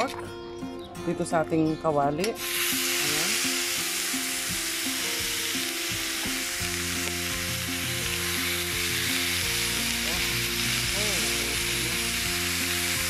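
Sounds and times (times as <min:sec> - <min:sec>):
background music: 0:00.0 - 0:13.0
pork sizzling in frying pan: 0:02.4 - 0:13.0.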